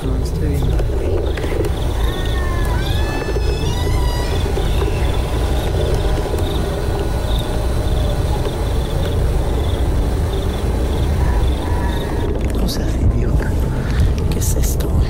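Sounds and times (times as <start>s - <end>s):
insects chirping: 0.0s - 15.0s
low rumble: 0.0s - 15.0s.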